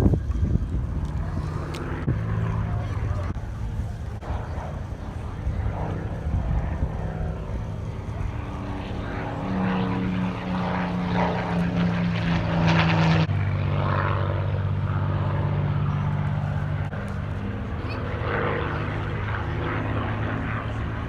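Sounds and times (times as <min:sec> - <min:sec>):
propeller aircraft engines flypast: 0:00.0 - 0:21.0.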